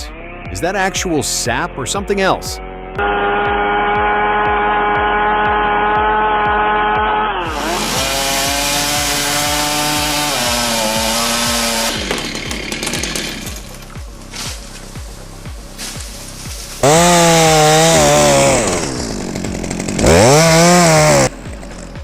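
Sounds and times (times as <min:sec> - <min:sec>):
chainsaw engine running at high revs: 0:02.9 - 0:22.0
chainsaw cutting noise: 0:03.0 - 0:22.0.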